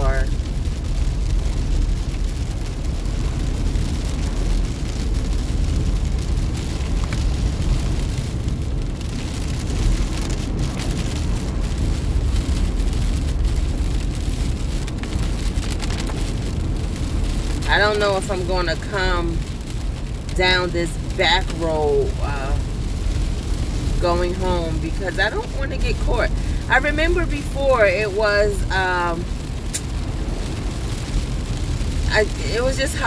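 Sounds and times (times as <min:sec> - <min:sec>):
rain and spray hitting car: 0:00.0 - 0:33.0
road and tyre rumble: 0:00.0 - 0:33.0.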